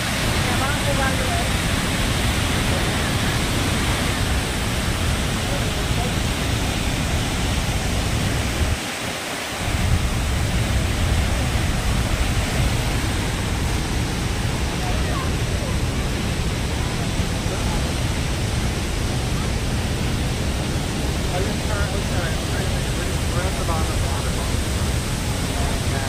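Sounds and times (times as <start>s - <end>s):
waterfall roar: 0.0s - 26.0s.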